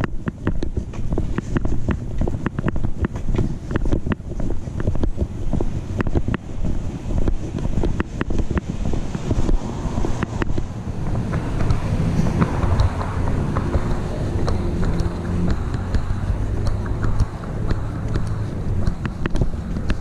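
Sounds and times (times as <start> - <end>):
wind and handling rumble: 0.0 - 20.0.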